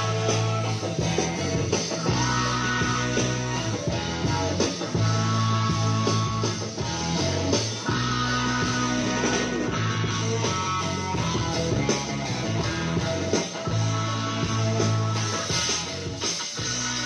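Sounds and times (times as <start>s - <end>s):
strong bass line: 0.0s - 17.0s.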